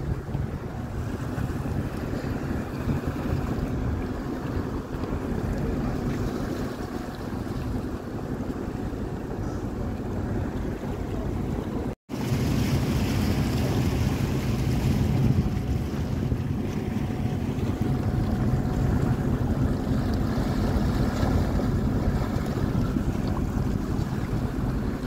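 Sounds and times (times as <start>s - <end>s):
churning water: 0.0s - 25.0s
ship engines rumbling: 0.0s - 25.0s
wind on microphone: 0.0s - 25.0s.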